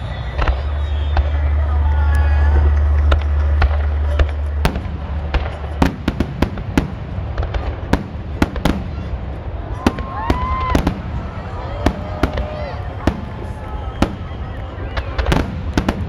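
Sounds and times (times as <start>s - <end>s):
deep rumble: 0.0s - 16.0s
fireworks bangs and crackles: 0.0s - 16.0s.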